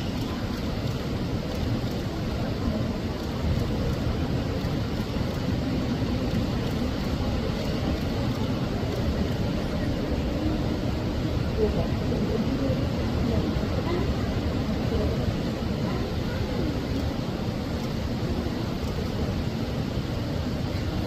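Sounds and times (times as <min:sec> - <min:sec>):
faint voices: 0:00.0 - 0:21.0
low rumbling background noise: 0:00.0 - 0:21.0.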